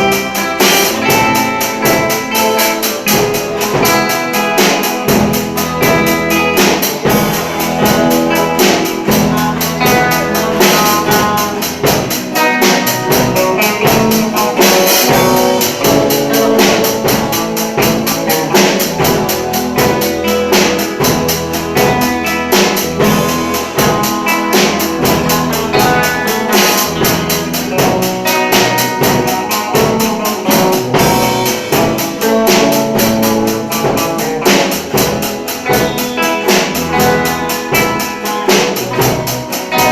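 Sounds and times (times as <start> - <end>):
fast beat music with percussion: 0.0 - 39.9.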